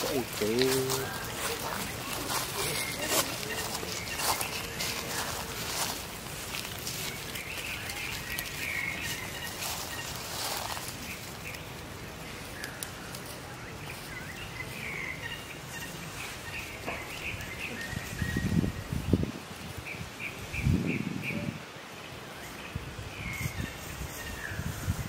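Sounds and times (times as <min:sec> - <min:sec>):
rustles in dry leaves: 0:00.0 - 0:25.0
steady background hiss: 0:00.0 - 0:25.0.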